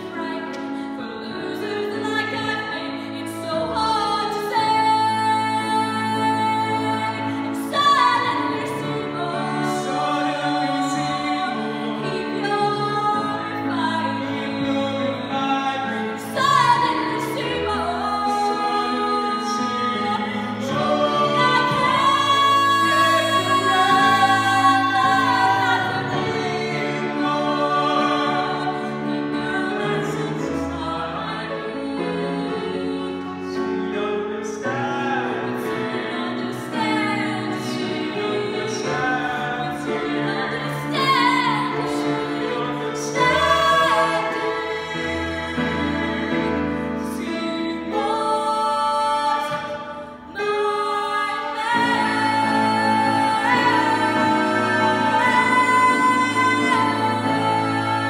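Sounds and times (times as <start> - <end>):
woman singing: 0.0 - 27.2, 35.8 - 58.0
musical accompaniment: 0.0 - 58.0.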